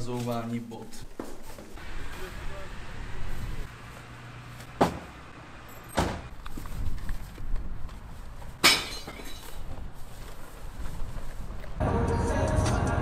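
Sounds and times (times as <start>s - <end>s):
street traffic hum: 1.0s - 13.0s.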